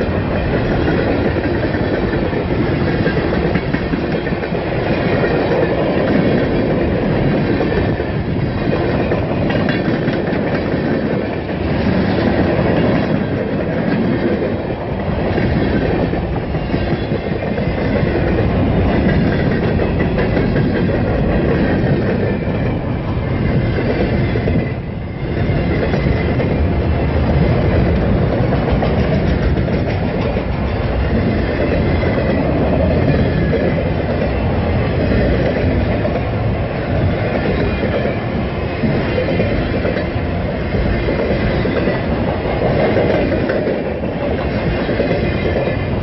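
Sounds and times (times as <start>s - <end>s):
freight train cars rolling past: 0.0s - 46.0s.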